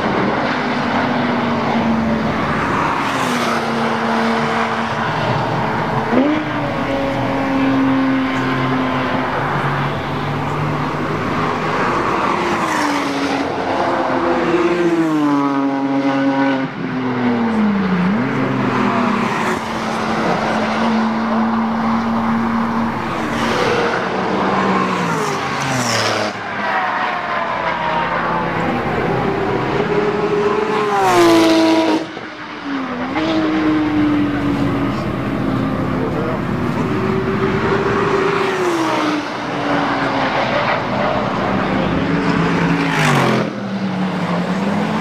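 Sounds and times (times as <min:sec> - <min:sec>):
sports cars passing at speed: 0:00.0 - 0:45.0.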